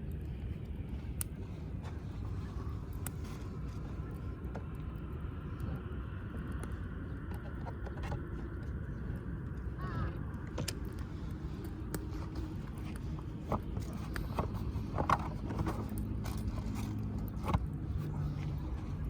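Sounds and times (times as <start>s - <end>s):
wood fire crackling: 0.0s - 7.3s, 8.3s - 19.0s
low rumble: 0.0s - 19.0s.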